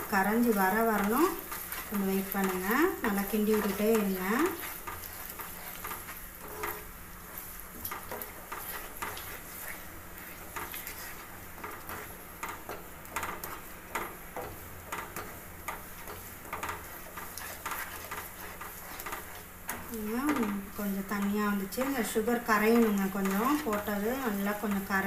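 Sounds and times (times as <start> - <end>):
faint sizzle: 0.0 - 25.0
spatula scraping a pan: 0.0 - 25.0.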